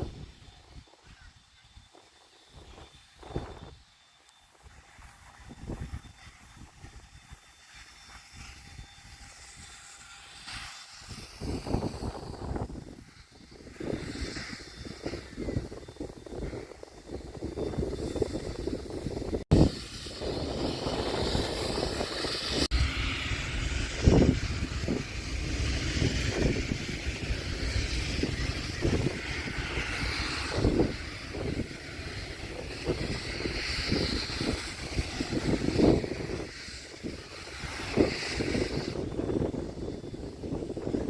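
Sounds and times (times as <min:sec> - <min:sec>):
steam locomotive chugging: 0:00.0 - 0:41.0.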